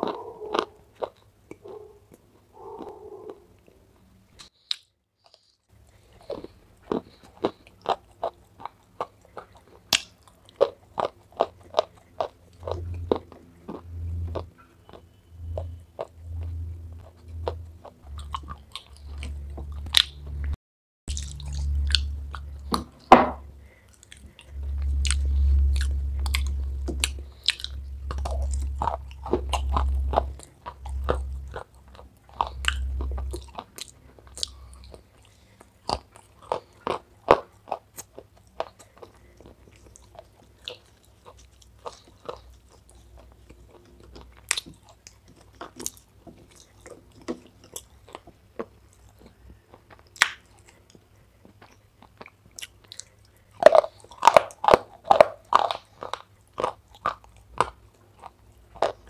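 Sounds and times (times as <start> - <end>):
crunchy biting and chewing: 0.0 - 59.0.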